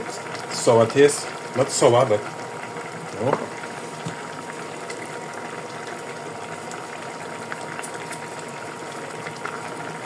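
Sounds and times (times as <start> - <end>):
pot of food simmering: 0.0 - 10.0.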